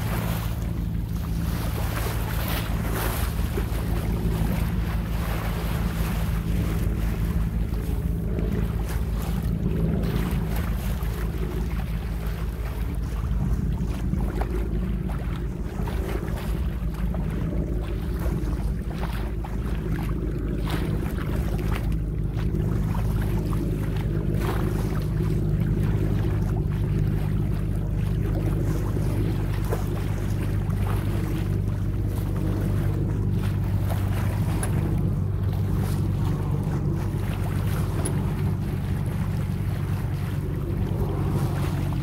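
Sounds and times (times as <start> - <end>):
low drone: 0.0 - 42.0
water rushing along hull: 0.0 - 42.0
wind buffeting microphone: 0.0 - 42.0.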